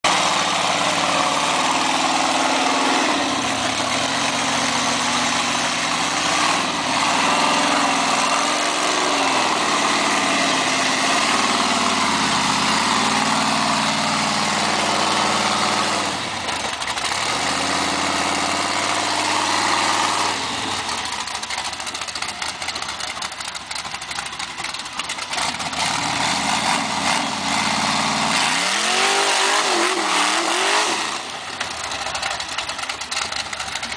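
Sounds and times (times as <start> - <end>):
buggy engine revving: 0.0 - 33.9.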